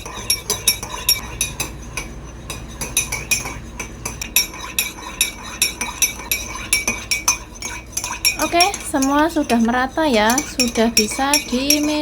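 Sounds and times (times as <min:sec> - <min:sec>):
metal spoon clinking glass: 0:00.0 - 0:12.0.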